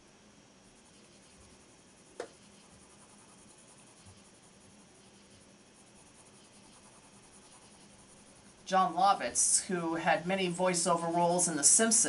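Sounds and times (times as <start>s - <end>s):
pencil scratching on paper: 0.6s - 12.0s.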